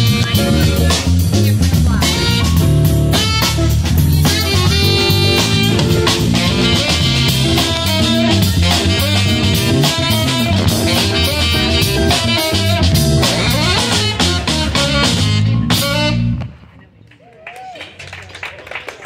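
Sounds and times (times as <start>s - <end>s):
live jazz band playing: 0.0s - 16.8s.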